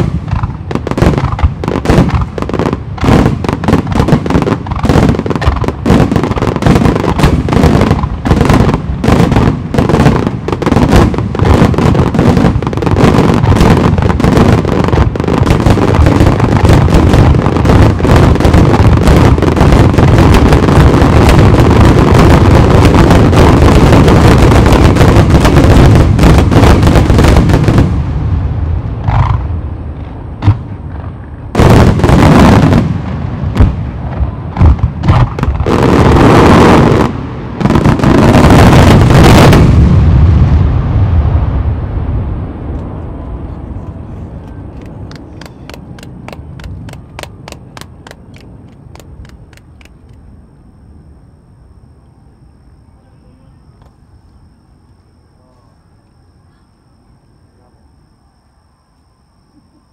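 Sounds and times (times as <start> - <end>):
firework bursts and booms: 0.0 - 50.4.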